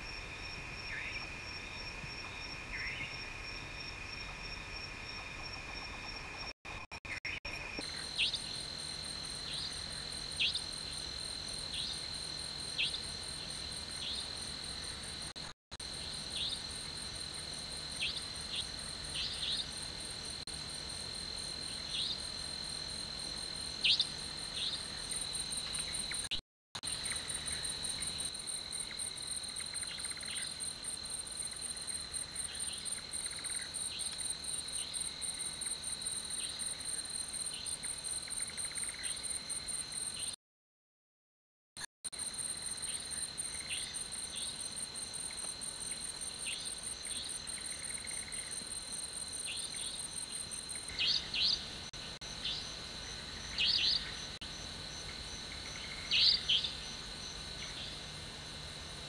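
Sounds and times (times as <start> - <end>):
crickets trilling: 0.0 - 40.4, 42.1 - 59.0.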